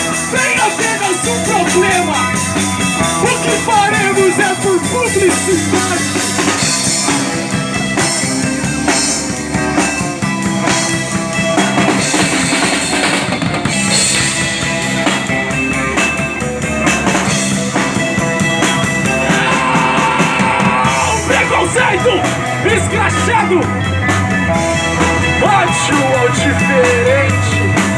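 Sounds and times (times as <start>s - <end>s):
bass drum beat: 0.0s - 27.9s
drum rimshots: 0.0s - 27.9s
live rock band playing: 0.0s - 27.9s.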